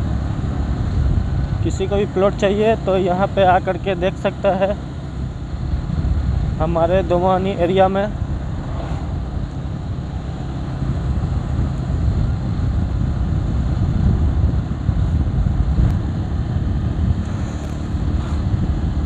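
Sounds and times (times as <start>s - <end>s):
vehicle road noise: 0.0s - 19.0s.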